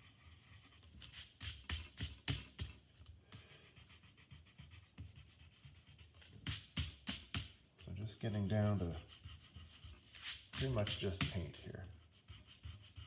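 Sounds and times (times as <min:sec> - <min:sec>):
eraser scrubbing on paper: 0:00.0 - 0:02.8, 0:03.8 - 0:07.5, 0:08.9 - 0:13.0.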